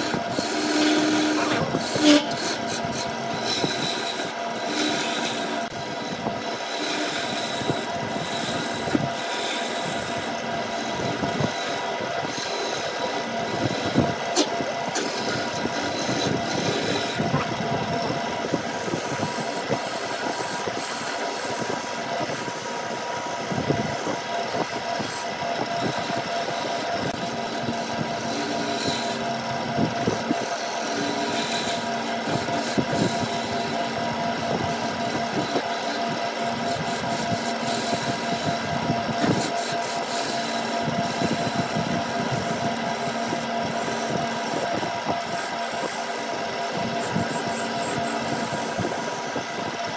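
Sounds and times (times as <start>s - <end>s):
gouge rasping on spinning wood: 0.0s - 49.9s
wood lathe motor hum: 0.0s - 49.9s.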